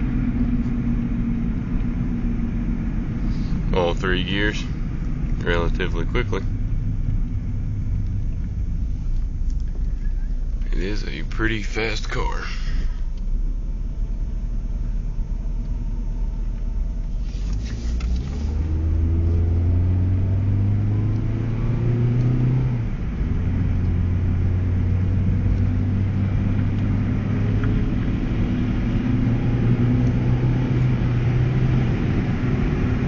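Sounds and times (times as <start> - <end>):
car engine revving: 0.0 - 33.0
road rumble: 0.0 - 33.0.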